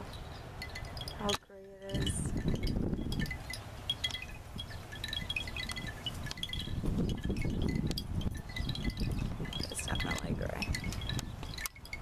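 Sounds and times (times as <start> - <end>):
chimes ringing: 0.0 - 12.0.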